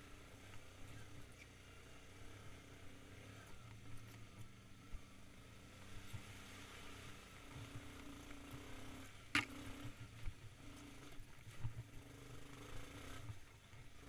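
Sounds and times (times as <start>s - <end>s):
quad bike engine at low speed: 0.0s - 14.0s.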